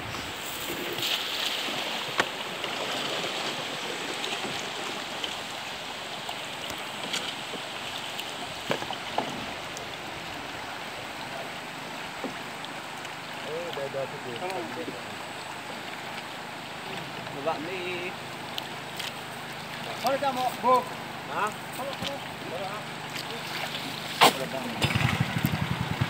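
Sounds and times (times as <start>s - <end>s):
flowing river water: 0.0s - 26.0s.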